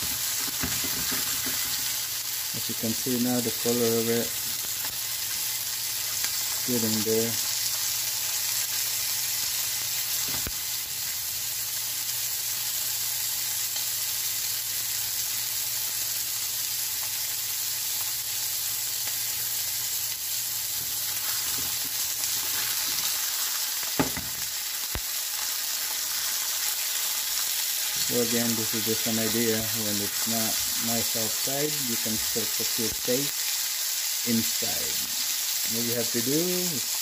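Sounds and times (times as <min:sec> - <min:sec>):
steaks sizzling in oil: 0:00.0 - 0:37.0.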